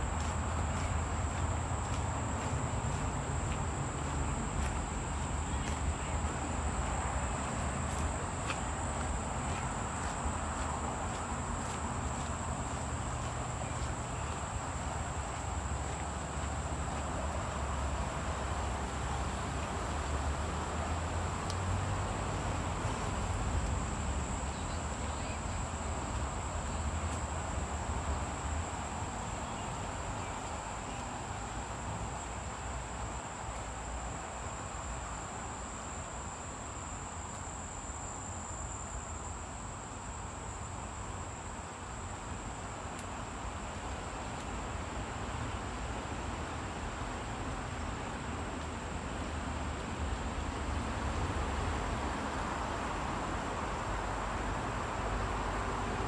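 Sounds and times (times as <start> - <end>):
insects droning: 0.0 - 56.0
outdoor hiss: 0.0 - 56.0.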